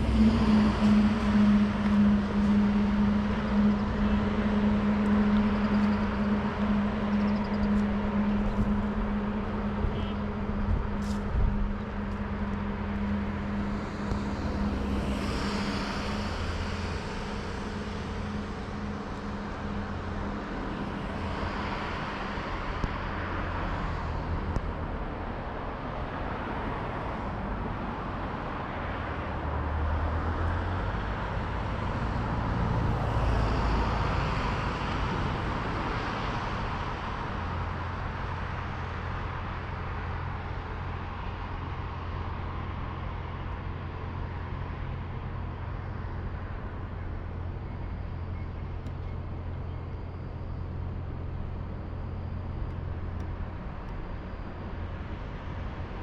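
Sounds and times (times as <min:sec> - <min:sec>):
cars going by: 0:00.0 - 0:56.0.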